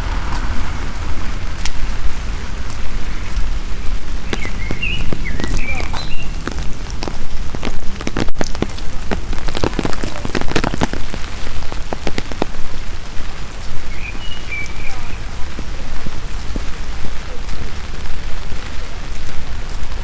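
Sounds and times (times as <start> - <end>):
loud raindrops striking nearby: 0.0 - 20.0
steady rain falling: 0.0 - 20.0.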